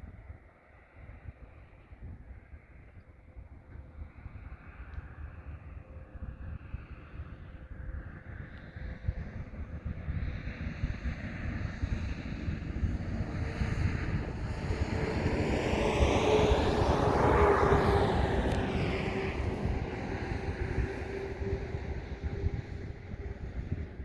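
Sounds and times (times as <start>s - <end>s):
wind rumble on microphone: 0.0s - 24.0s
aircraft engine drone: 4.2s - 24.0s.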